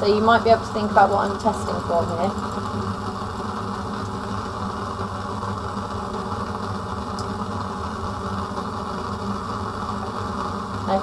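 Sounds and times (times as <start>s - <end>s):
bunsen burner roar: 0.0s - 11.0s
extraction fan hum: 0.0s - 11.0s.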